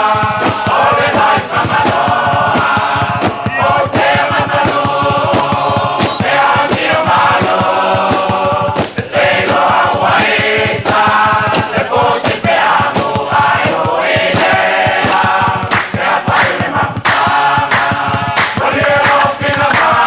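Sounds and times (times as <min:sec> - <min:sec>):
choir singing chant-like: 0:00.0 - 0:20.0
sharp rhythmic beats: 0:00.0 - 0:20.0.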